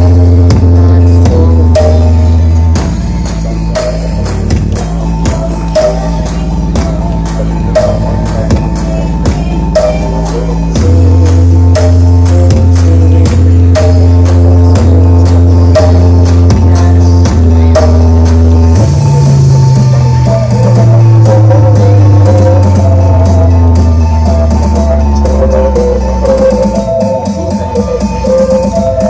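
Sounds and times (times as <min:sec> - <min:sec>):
loud music with booming bass: 0:00.0 - 0:29.0.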